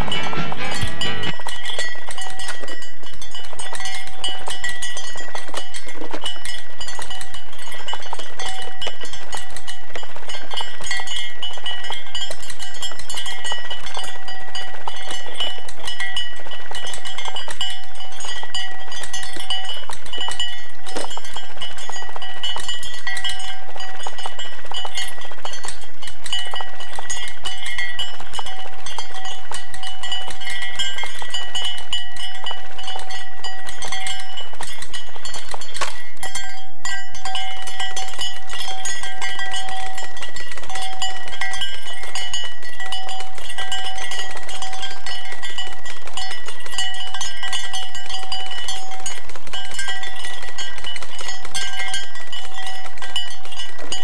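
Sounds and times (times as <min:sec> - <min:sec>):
fast clattering and clinking: 0:00.0 - 0:54.0
steady ringing tones: 0:00.0 - 0:54.0.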